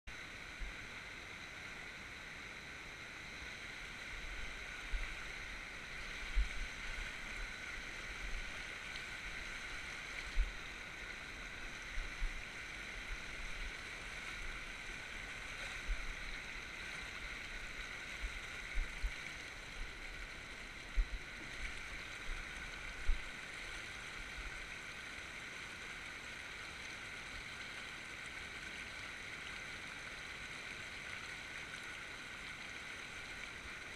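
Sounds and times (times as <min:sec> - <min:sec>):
river rushing over rocks: 0:00.2 - 0:33.9.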